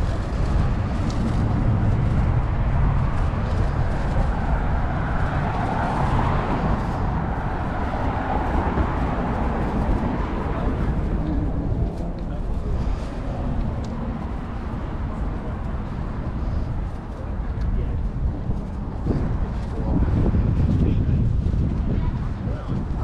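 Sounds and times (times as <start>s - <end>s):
passing cars rumble: 0.0s - 23.0s.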